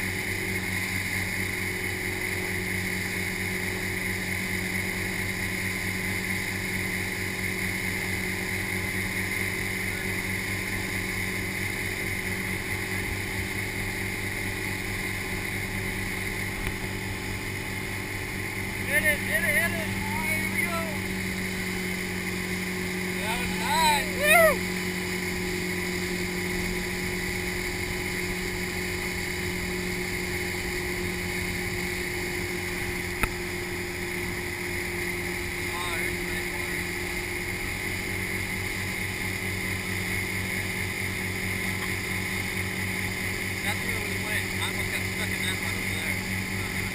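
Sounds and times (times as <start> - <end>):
motorboat engine running: 0.0 - 46.9
wind: 0.0 - 46.9
water rushing and spraying: 0.1 - 46.9.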